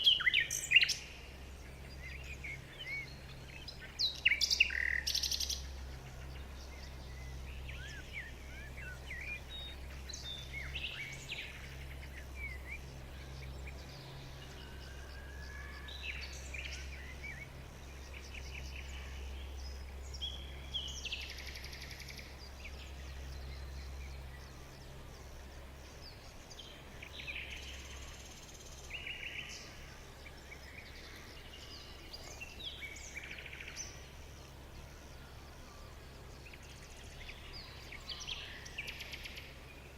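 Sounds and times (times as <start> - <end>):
low steady rumble: 0.0 - 39.9
songbirds chirping: 0.0 - 39.9.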